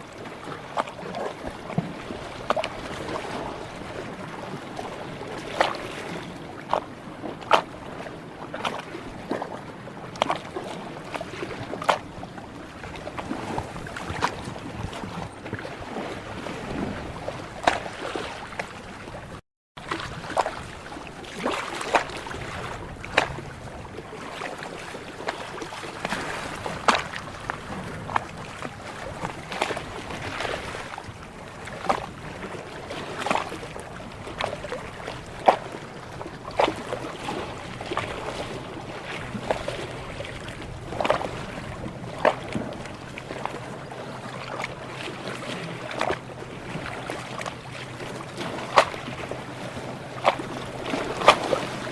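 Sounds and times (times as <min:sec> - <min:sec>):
small waves lapping: 0:00.0 - 0:51.9.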